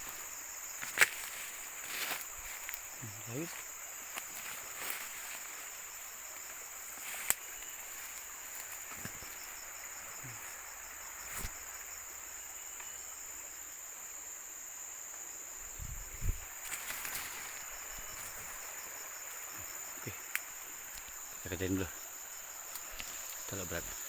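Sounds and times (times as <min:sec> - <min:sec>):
high-pitched insect chorus: 0:00.0 - 0:24.0
pulsing insect trill: 0:00.0 - 0:24.0.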